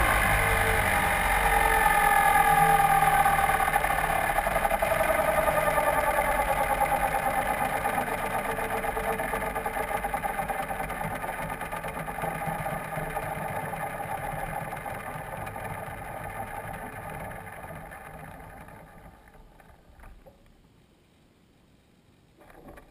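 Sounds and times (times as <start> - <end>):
model helicopter rotor spinning down: 0.0 - 19.8.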